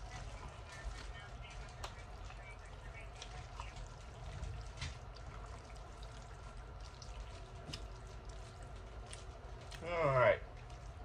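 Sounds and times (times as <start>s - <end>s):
low steady hum: 0.0s - 11.0s
wet squishy pasta mixing: 0.0s - 11.0s.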